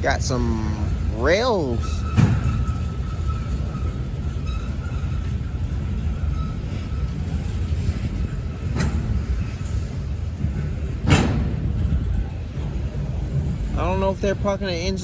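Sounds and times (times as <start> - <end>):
freight cars rolling past: 0.0 - 15.0.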